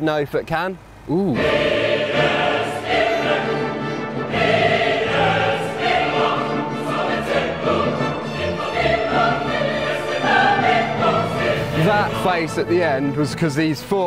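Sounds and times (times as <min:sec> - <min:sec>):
choir singing long notes: 0:01.1 - 0:13.2.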